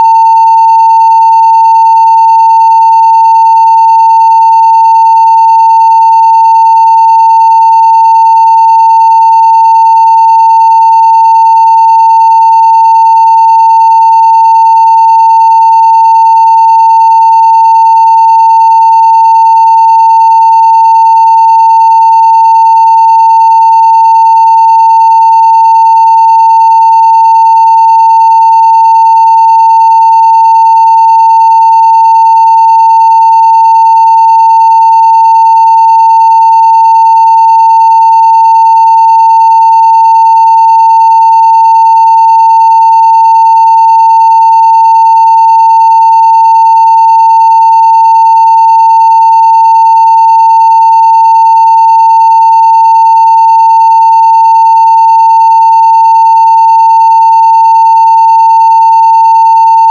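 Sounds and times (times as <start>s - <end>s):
sine-wave test tone: 0.0s - 59.9s.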